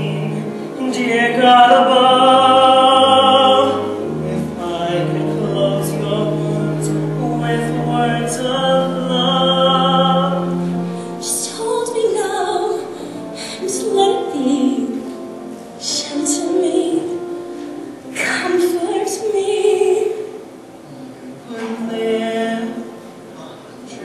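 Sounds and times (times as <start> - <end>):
duet singing: 0.0 - 24.0
low held accompaniment: 0.0 - 24.0.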